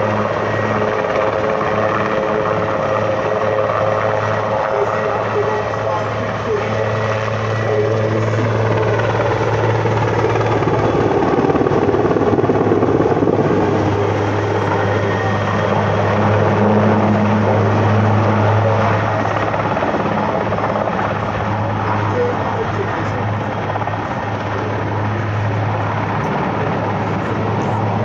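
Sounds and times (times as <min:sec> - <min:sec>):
helicopter rotor thrum: 0:00.0 - 0:28.0.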